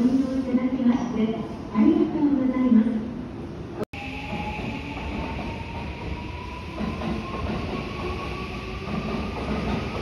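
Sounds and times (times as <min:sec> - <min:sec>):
low train rumble: 0:00.0 - 0:10.0.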